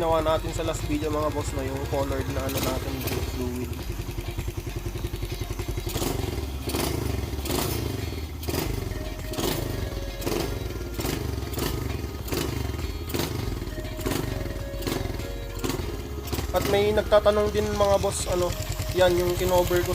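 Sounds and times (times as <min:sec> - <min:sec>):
motorcycle engine rumbling: 0:00.0 - 0:19.9.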